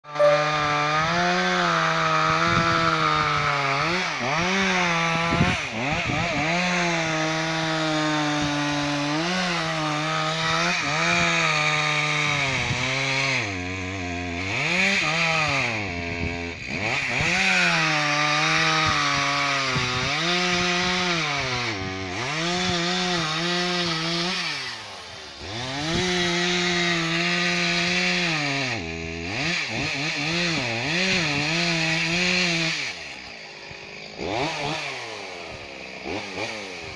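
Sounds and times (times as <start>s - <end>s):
chainsaw cutting timber: 0.1s - 36.9s.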